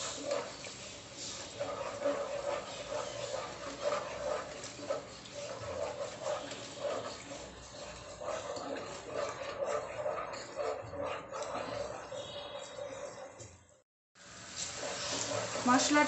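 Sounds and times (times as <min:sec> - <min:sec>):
paste sizzling in pot: 0:00.0 - 0:13.0, 0:14.2 - 0:16.0
spatula squelching and scraping: 0:00.0 - 0:13.8, 0:14.5 - 0:16.0.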